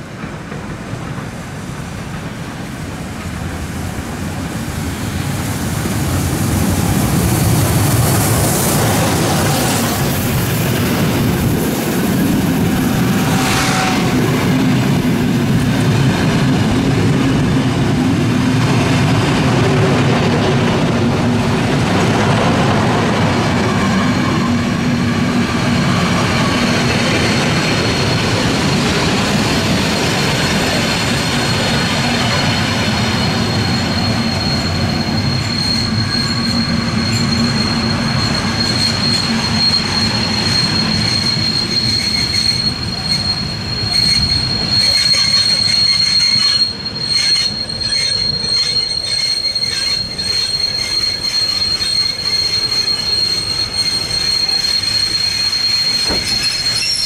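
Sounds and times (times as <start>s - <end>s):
train wheel squeal: 0.0s - 57.0s
train wheels rumbling: 0.0s - 57.0s.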